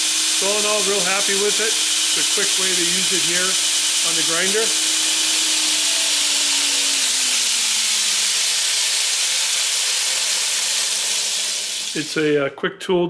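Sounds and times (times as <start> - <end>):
belt grinder hissing: 0.0 - 12.2
grinder motor hum: 0.0 - 12.2.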